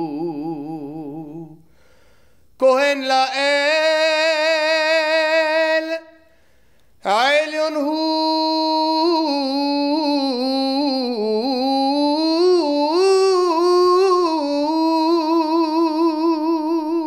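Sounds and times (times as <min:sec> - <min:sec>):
man singing unaccompanied: 0:00.0 - 0:01.7, 0:02.6 - 0:06.3, 0:07.0 - 0:17.0.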